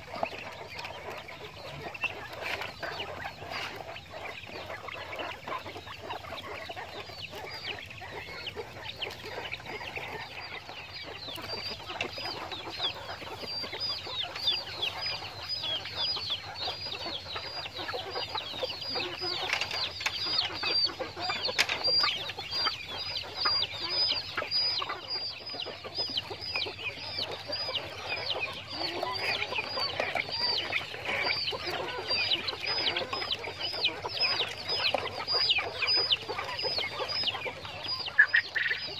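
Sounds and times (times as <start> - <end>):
quail chirping: 0.0 - 38.9.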